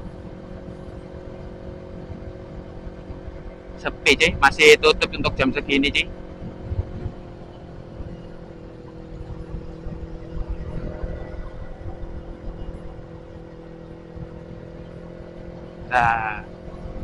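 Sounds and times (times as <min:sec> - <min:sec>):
motorcycle engine running: 0:00.0 - 0:17.0
wind rumbling on microphone: 0:00.0 - 0:17.0.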